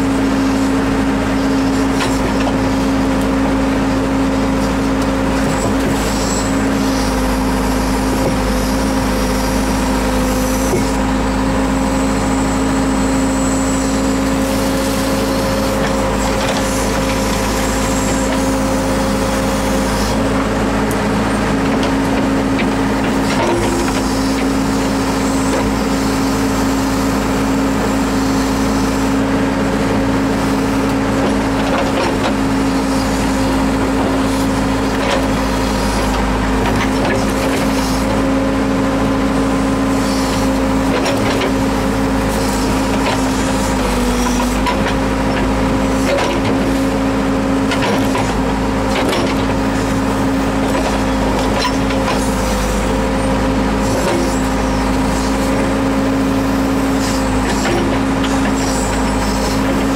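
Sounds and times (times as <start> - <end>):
diesel engine running: 0.0 - 59.9
hydraulic whine: 0.0 - 59.9.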